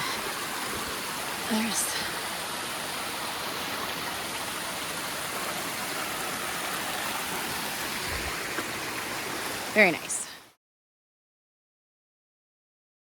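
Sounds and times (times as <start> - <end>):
water rushing down stream cascades: 0.0 - 10.6.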